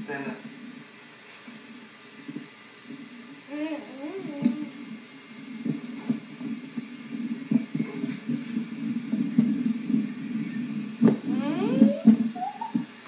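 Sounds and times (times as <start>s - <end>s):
low steady rumbling: 1.7s - 12.9s.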